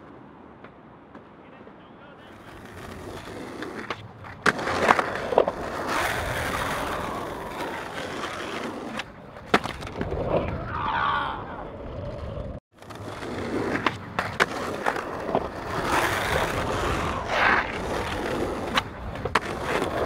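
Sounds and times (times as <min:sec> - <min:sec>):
skateboard clacks: 0:00.0 - 0:10.6, 0:12.8 - 0:20.0
skateboard wheels rolling on asphalt: 0:00.0 - 0:20.0
skateboard trucks grinding on curb: 0:02.3 - 0:10.7, 0:11.5 - 0:20.0.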